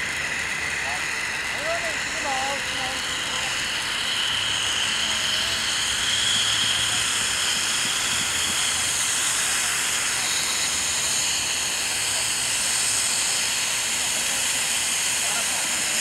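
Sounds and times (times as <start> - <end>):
firework fountain hissing: 0.0 - 16.0.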